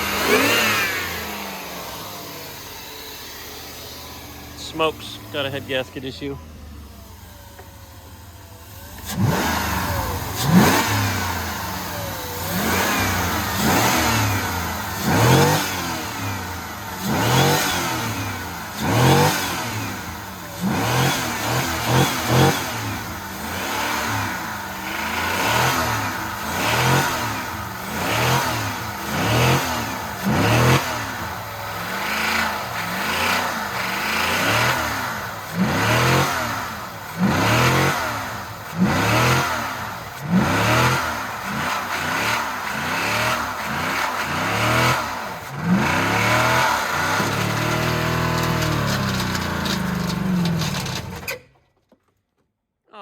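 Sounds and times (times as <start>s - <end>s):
car engine revving: 0.0s - 51.3s.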